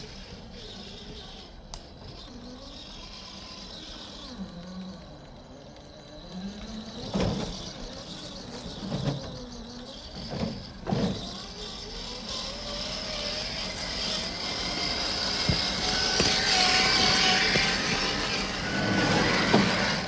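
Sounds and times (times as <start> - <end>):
toy car motor whining: 0.0 - 20.0.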